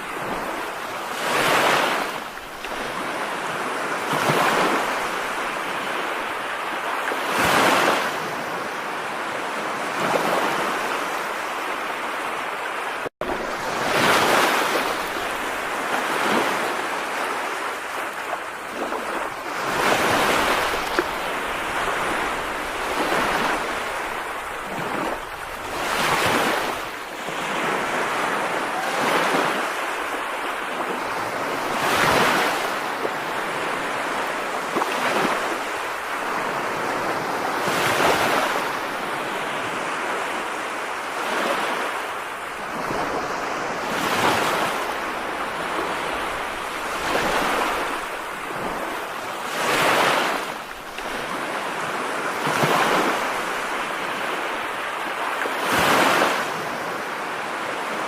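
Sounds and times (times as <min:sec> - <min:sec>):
waves washing in and out: 0:00.0 - 0:58.0.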